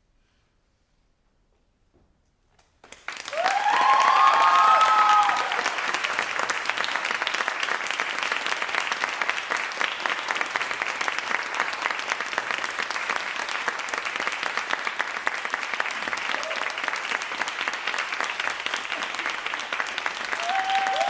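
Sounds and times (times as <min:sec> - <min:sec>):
audience applauding: 0:02.8 - 0:21.0.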